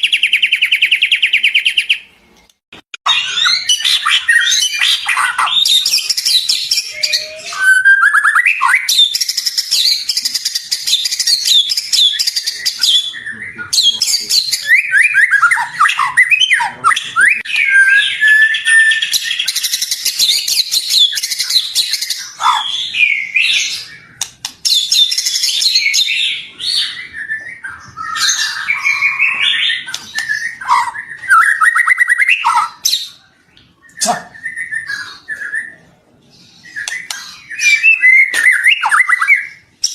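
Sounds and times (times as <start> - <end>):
songbird singing: 0.0 - 2.1, 3.1 - 39.9.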